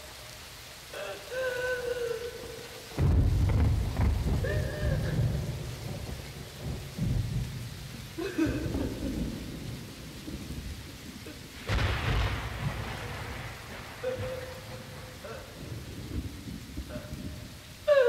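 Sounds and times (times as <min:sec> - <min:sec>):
rain-like hiss: 0:00.0 - 0:18.0
low rolling thunder rumble: 0:02.9 - 0:18.0
thunderclap: 0:02.9 - 0:18.0.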